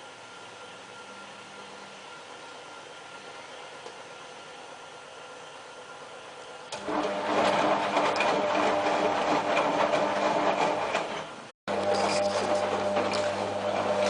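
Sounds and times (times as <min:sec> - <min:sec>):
washing machine hum and rattle: 0:00.0 - 0:14.0.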